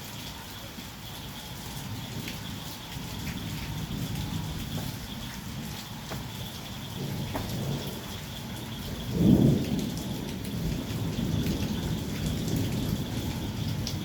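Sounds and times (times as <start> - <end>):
heavy rain falling: 0.0 - 14.0
thunder clap and rumble: 1.8 - 14.0.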